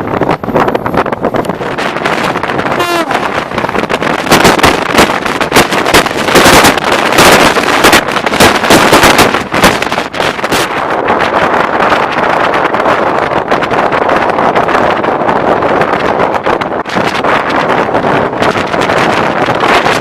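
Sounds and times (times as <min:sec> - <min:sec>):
train rushing: 0:00.0 - 0:19.8
wind buffeting microphone: 0:00.0 - 0:20.0.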